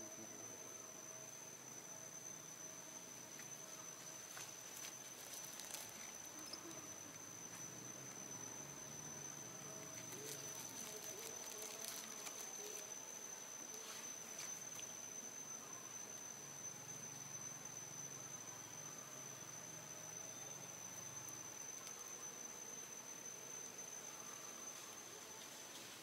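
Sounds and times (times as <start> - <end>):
high-pitched insect trill: 0.0 - 26.0.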